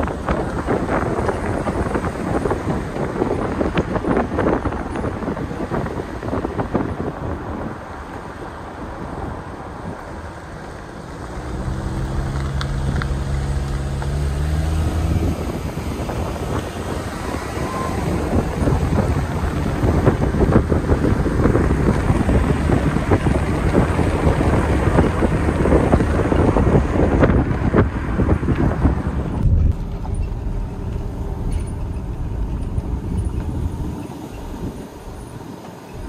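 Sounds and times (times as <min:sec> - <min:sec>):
road noise: 0:00.0 - 0:36.0
vehicle engine hum: 0:00.0 - 0:36.0
wind buffeting microphone: 0:00.0 - 0:36.0.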